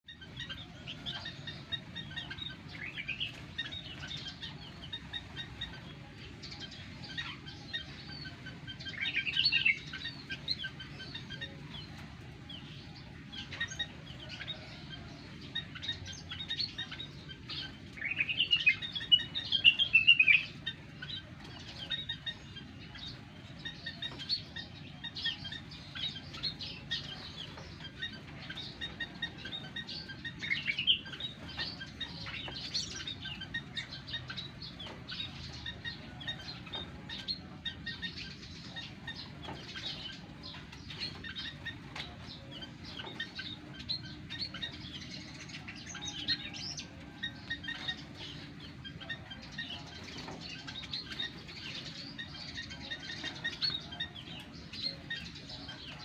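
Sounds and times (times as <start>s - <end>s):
small birds chirping and twittering: 0.0s - 56.0s.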